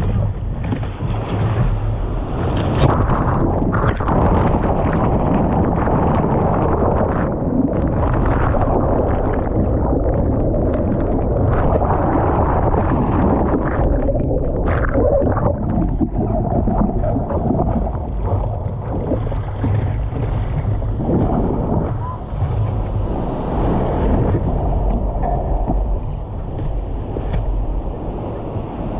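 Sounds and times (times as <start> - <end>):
muffled churning water: 0.0 - 28.9
wind buffeting microphone: 0.0 - 28.9.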